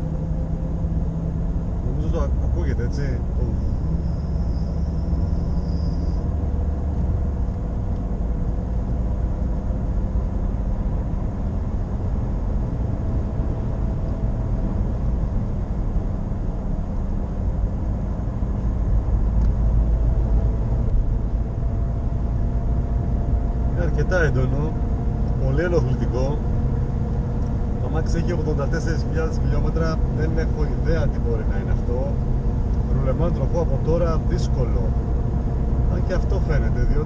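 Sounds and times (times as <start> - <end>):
road rumble: 0.0 - 37.0
steady drone in car cabin: 0.0 - 37.0.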